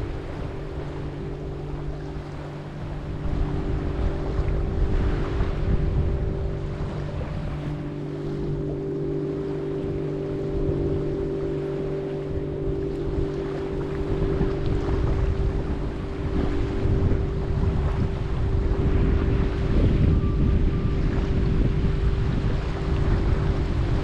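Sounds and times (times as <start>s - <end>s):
motor droning: 0.0s - 24.0s
surf: 0.0s - 24.0s
wind buffeting microphone: 0.0s - 24.0s.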